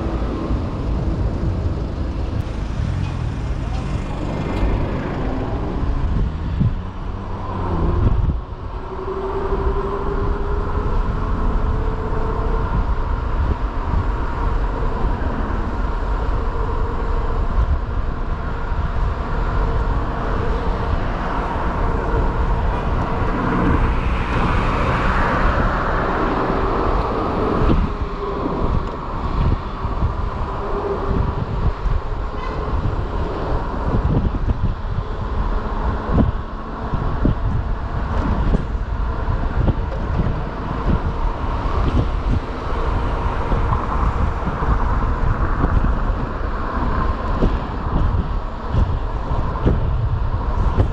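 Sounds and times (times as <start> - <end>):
city traffic noise: 0.0 - 50.9
wind buffeting microphone: 0.0 - 50.9.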